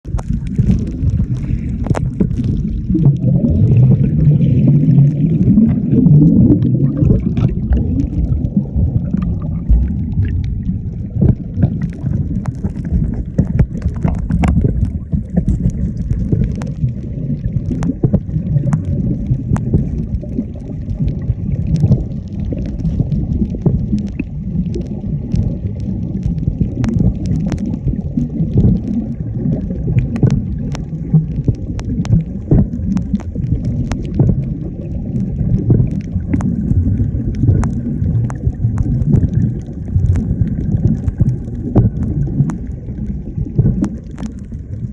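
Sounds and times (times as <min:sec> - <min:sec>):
sharp underwater clicks: 0:00.0 - 0:44.9
underwater rumble and gurgle: 0:00.0 - 0:44.9.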